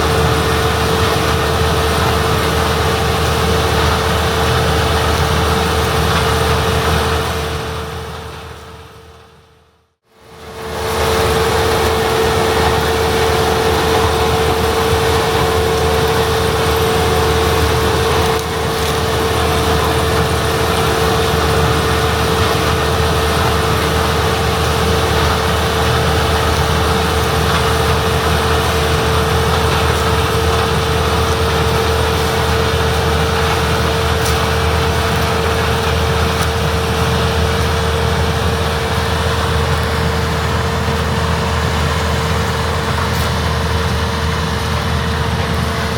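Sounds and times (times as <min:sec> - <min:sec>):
low diesel engine rumble: 0:00.0 - 0:45.9
whine of threshing machinery: 0:00.0 - 0:45.9.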